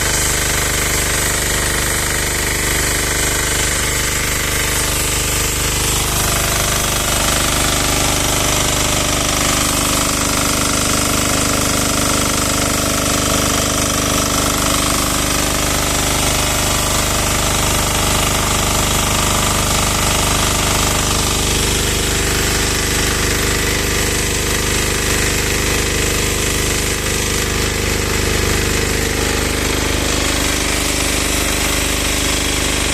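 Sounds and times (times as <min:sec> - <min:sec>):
diesel engine knocking: 0:00.0 - 0:32.9
pressure washer hiss: 0:00.0 - 0:32.9.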